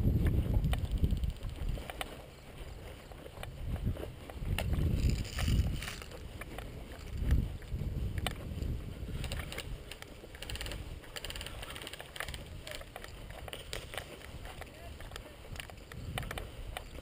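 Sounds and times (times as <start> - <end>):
footsteps in grass: 0.0 - 17.0
wind rumble on microphone: 0.0 - 17.0
sharp clicks: 0.2 - 2.3, 4.2 - 17.0
gear rustling: 0.4 - 17.0.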